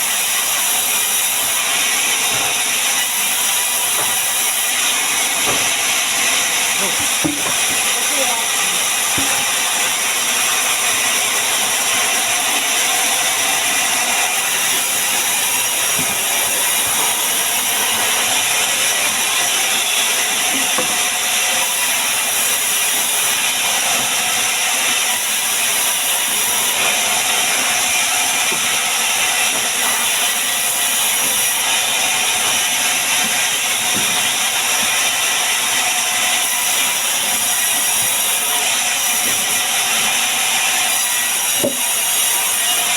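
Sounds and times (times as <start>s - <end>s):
woodworking power tool running: 0.0s - 42.9s.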